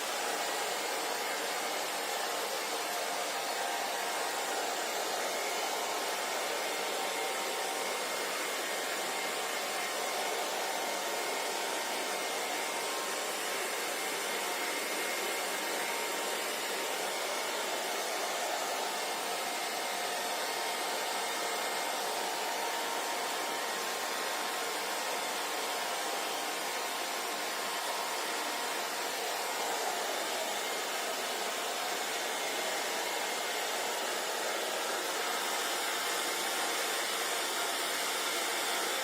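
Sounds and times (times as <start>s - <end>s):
hair dryer running: 0.0s - 39.0s.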